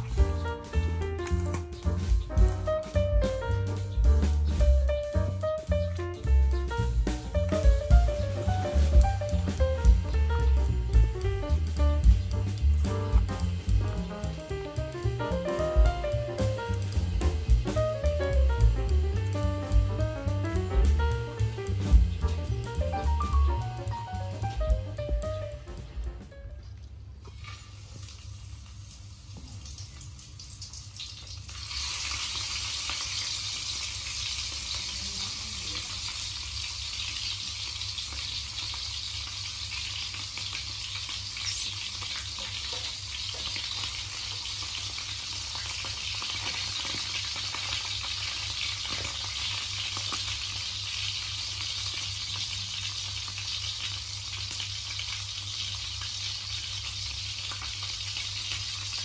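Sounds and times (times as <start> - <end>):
frying in oil sizzling: 0.0 - 59.0.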